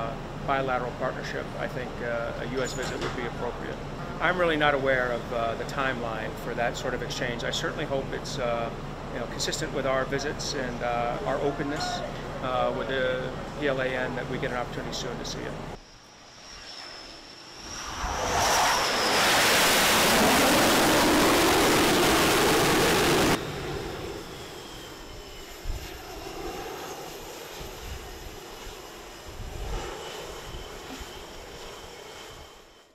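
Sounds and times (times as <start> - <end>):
loud jet engine roar: 0.0 - 32.9
steady jet noise with high whine: 0.0 - 32.9.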